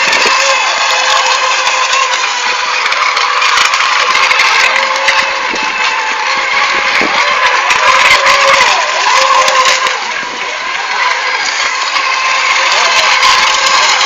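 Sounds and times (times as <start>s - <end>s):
electric model boat motors droning: 0.0s - 14.0s.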